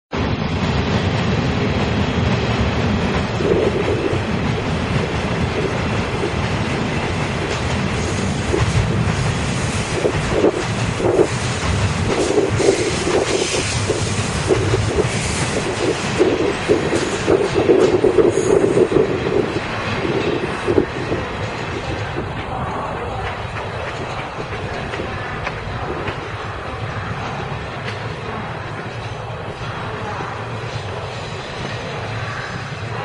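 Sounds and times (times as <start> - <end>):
train wheels rumbling on rails: 0.1 - 33.0
clickety-clack wheel clatter: 0.8 - 33.0.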